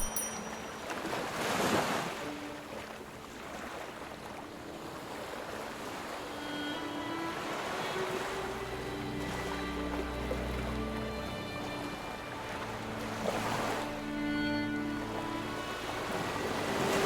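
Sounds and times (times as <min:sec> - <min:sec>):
faint soft musical tones: 0:00.0 - 0:17.0
ocean waves washing in: 0:00.0 - 0:17.0.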